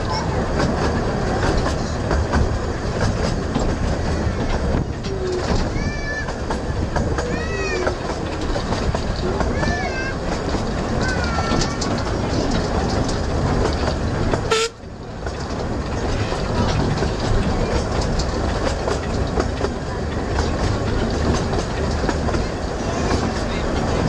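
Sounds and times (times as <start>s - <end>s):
train coaches rumbling on track: 0.0s - 24.0s.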